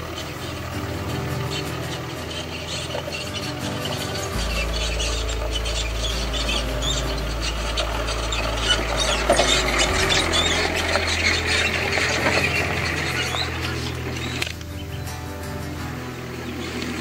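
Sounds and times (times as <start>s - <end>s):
low sustained drone notes: 0.0s - 17.0s
rasping chirping layer: 0.0s - 17.0s.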